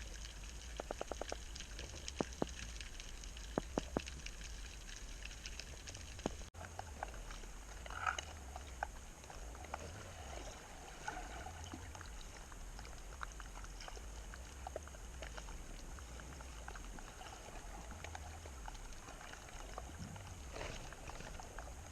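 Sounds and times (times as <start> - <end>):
crackle of small clicks: 0.0 - 21.9.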